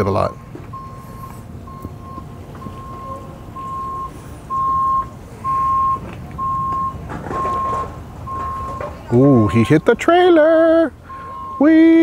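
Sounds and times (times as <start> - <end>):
vehicle reversing alarm beeping: 0.0 - 12.0.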